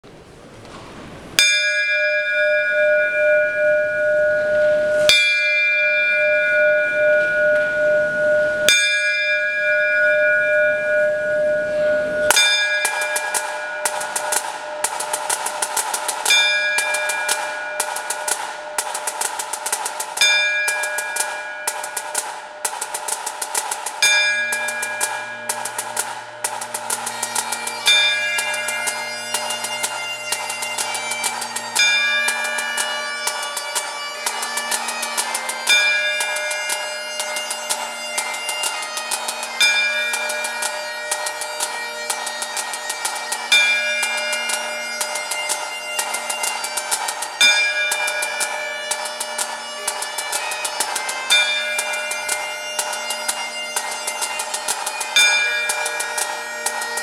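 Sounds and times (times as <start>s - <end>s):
bells tolling: 0.6s - 57.0s
bagpipe drones: 1.7s - 57.0s.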